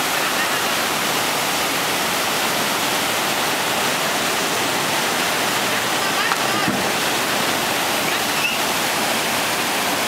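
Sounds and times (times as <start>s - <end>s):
whitewater rushing: 0.0s - 10.0s.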